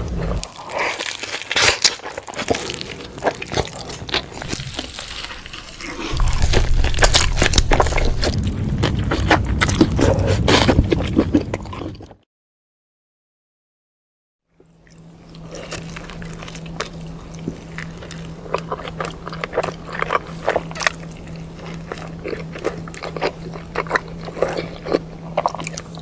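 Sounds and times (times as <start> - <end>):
biting and chewing a burger: 0.0 - 12.2, 14.8 - 26.0
low steady hum: 0.0 - 12.2, 14.5 - 26.0.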